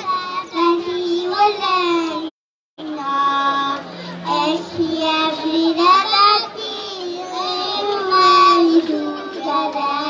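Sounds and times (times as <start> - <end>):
children singing through loudspeakers: 0.0 - 10.0.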